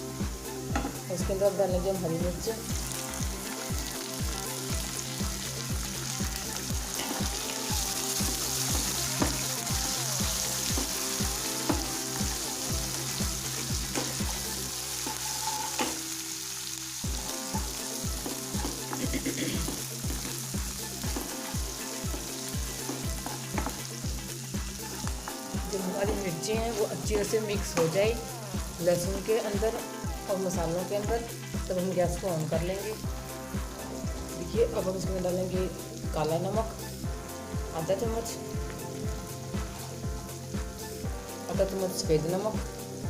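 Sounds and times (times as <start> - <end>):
background music with steady beat: 0.0 - 43.0
chilies sizzling in hot oil: 0.0 - 43.0.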